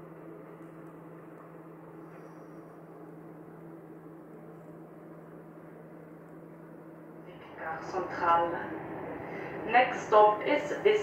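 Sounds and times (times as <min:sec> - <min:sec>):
electric train running hum: 0:00.0 - 0:11.0.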